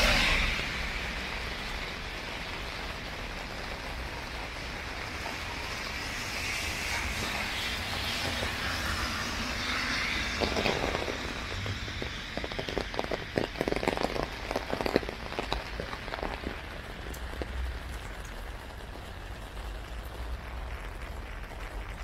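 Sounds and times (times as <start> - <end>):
raindrops striking umbrella: 0.0 - 22.0
steady hiss of rain: 0.0 - 22.0.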